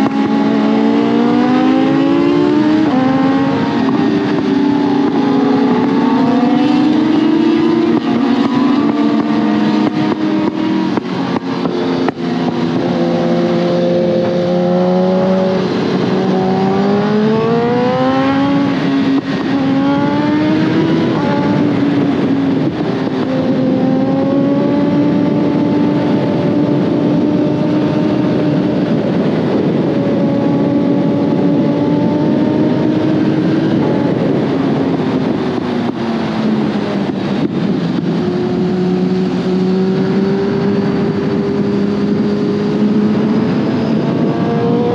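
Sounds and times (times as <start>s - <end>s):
motorcycle engine revving: 0.0s - 44.9s
wind rushing: 0.0s - 44.9s.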